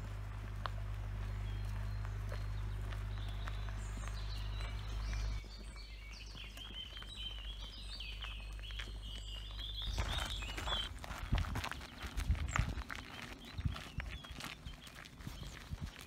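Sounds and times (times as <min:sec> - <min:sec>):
songbirds singing: 0:00.0 - 0:16.0
steady low hum: 0:00.0 - 0:16.0.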